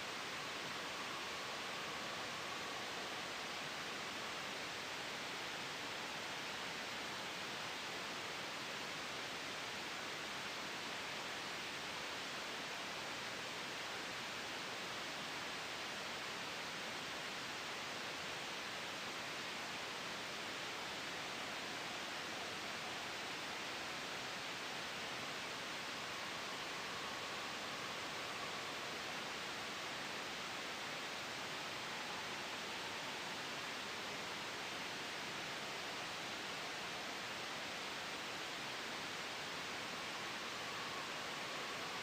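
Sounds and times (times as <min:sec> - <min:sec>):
steady white noise hiss: 0:00.0 - 0:42.0.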